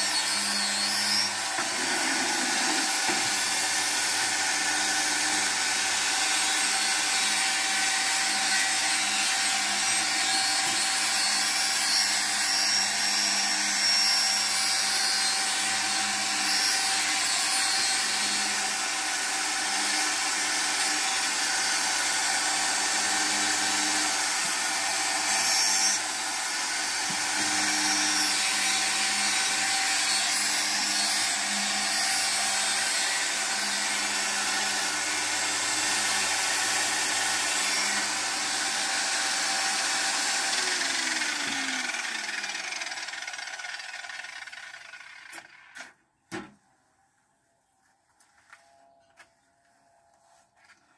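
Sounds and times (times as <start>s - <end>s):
angle grinder cutting tile: 0.0s - 45.9s.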